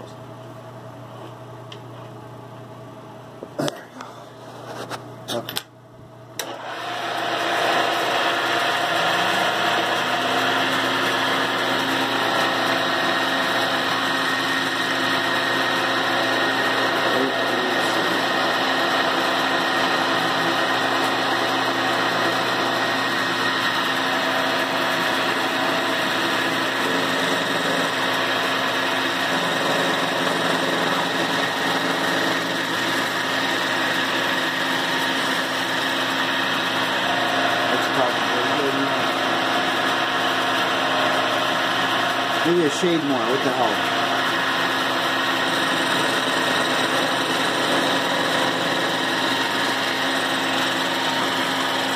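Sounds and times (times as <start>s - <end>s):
milling machine hum: 0.0s - 51.9s
cutter machining metal: 6.4s - 51.9s.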